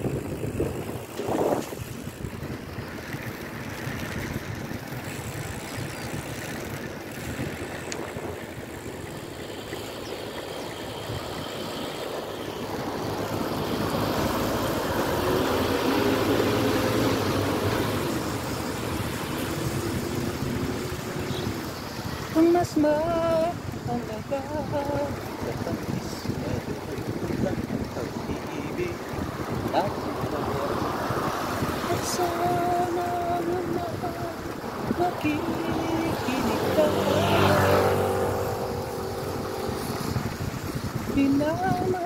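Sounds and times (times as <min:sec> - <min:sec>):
van engine: 0:00.0 - 0:03.7, 0:06.6 - 0:42.0
traffic on wet road: 0:00.0 - 0:42.0
wind on microphone: 0:00.0 - 0:42.0.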